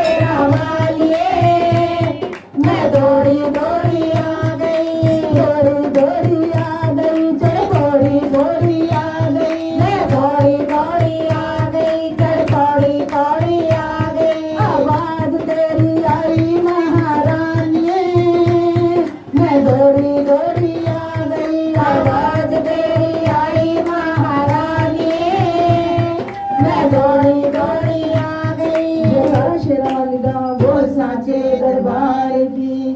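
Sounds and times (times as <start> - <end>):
hand drum beat: 0.0 - 31.2
devotional singing: 0.0 - 32.9.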